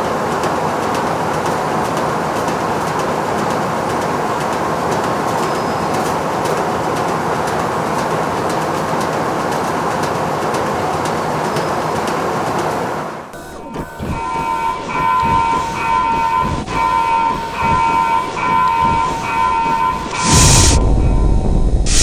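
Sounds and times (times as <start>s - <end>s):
factory machinery clattering: 0.0s - 22.0s.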